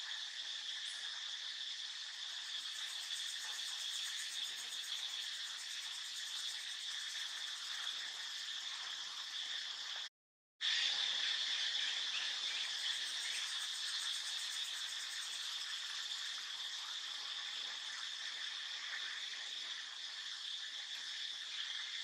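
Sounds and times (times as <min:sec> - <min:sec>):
shrill insect chorus: 0:00.0 - 0:10.1, 0:10.8 - 0:22.0.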